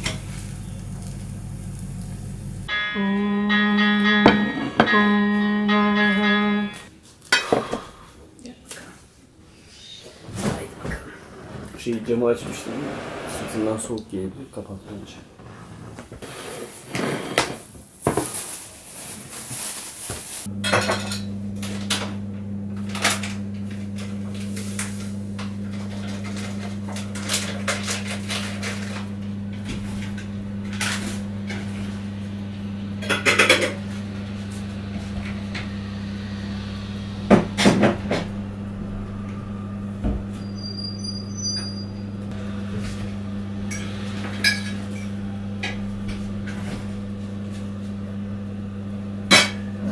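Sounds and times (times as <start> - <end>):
appliance humming: 0.0 - 6.9, 9.5 - 49.9.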